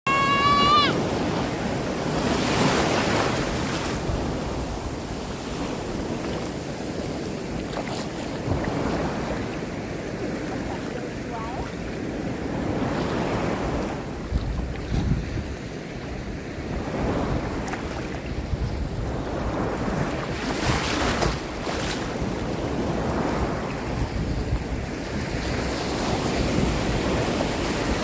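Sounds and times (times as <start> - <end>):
sea waves washing in: 0.1 - 28.0
wind buffeting microphone: 0.1 - 28.0.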